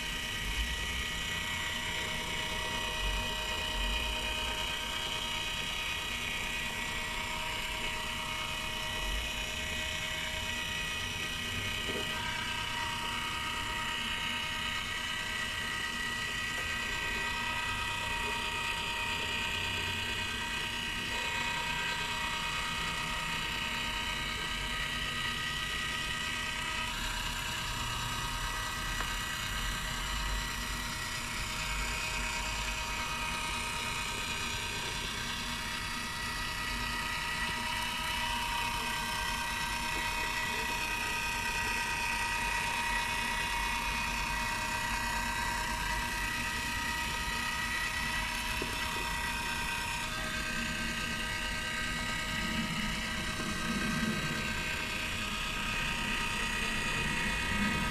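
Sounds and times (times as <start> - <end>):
motor and gears whirring: 0.0 - 57.9.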